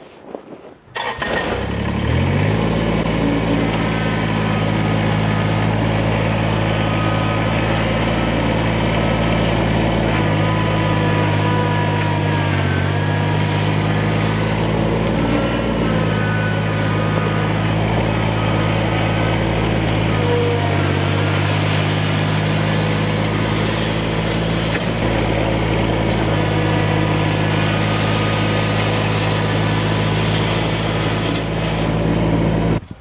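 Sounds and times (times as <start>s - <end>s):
tractor diesel engine running: 0.9s - 33.0s.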